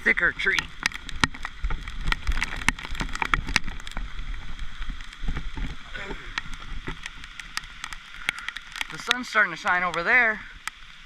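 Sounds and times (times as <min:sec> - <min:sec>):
heavy rain: 0:00.0 - 0:11.0
raindrops tapping camera and leaves: 0:00.0 - 0:11.0.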